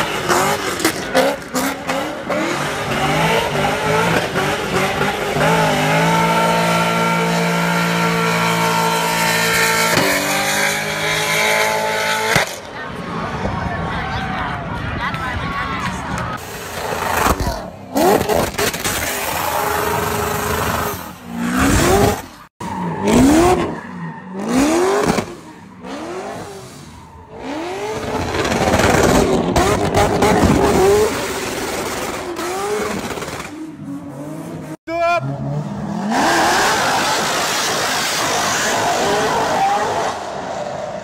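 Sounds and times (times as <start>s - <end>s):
car engines revving hard: 0.0s - 13.4s, 16.4s - 41.0s.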